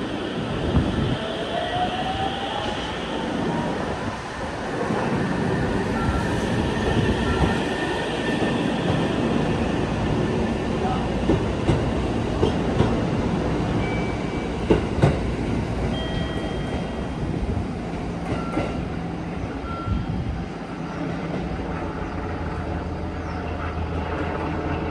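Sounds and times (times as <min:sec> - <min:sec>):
train wheels rumbling and clacking: 0:02.6 - 0:24.9.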